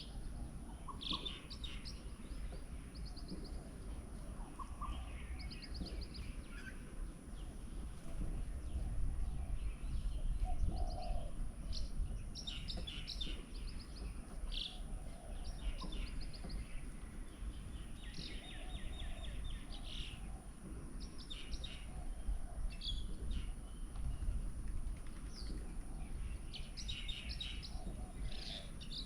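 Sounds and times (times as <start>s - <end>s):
small birds chirping: 0.0s - 29.0s
steady low rumble: 0.0s - 29.0s.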